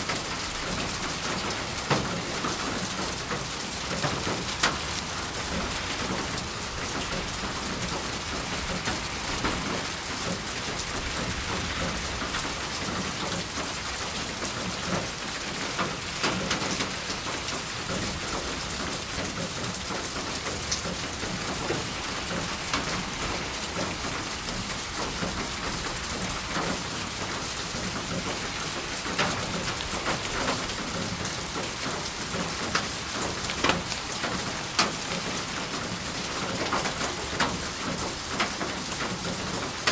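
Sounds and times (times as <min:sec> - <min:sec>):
raindrops clicking on a surface: 0:00.0 - 0:39.9
steady rain falling: 0:00.0 - 0:39.9.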